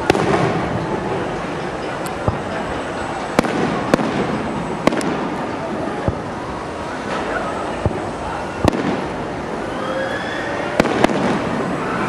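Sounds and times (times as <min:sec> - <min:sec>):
fireworks bangs: 0:00.0 - 0:09.9, 0:10.6 - 0:12.0
steady background noise: 0:00.0 - 0:12.0.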